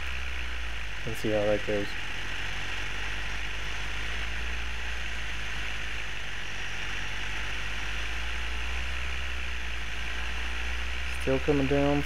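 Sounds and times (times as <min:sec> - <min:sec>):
paramotor engine and propeller: 0:00.0 - 0:12.0.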